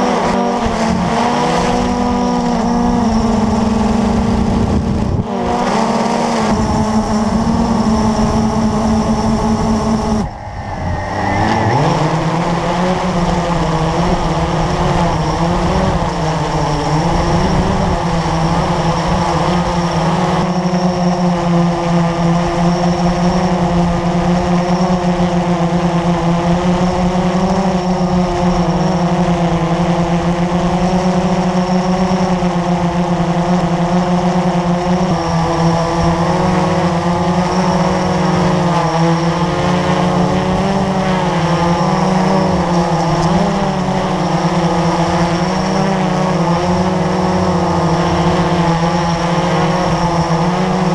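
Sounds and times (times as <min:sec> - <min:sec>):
drone propellers buzzing: 0:00.0 - 0:50.9.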